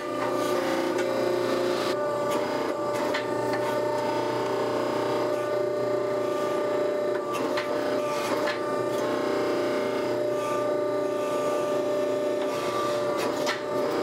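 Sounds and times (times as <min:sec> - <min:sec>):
hydraulic press hum and whine: 0:00.0 - 0:14.0.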